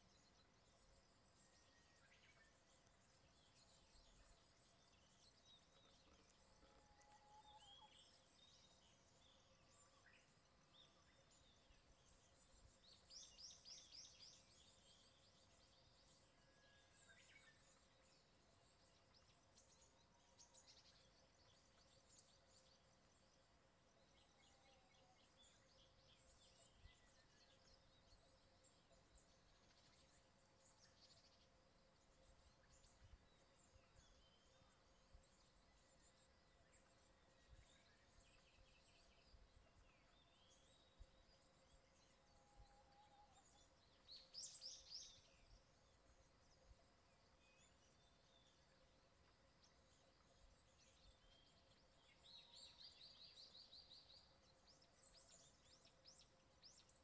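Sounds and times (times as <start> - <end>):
faint steady hum: 0.0 - 57.0
small birds chirping: 0.0 - 57.0.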